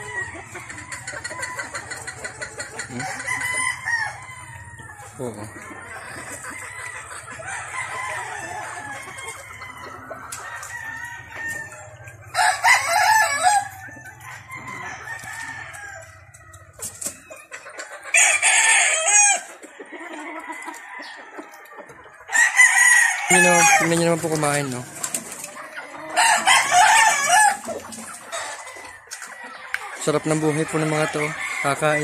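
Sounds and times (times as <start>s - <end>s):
chickens clucking softly: 0.0s - 32.0s
roosters crowing: 0.0s - 32.0s.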